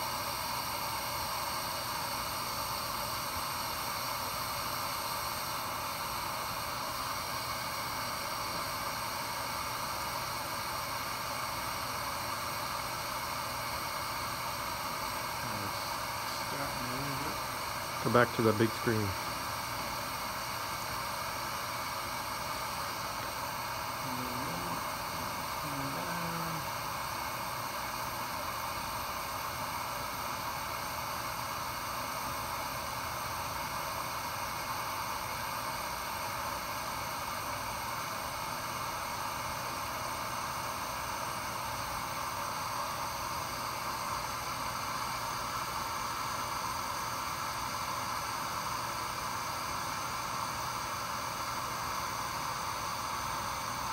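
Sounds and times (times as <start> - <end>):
hot gas hissing: 0.0 - 53.9.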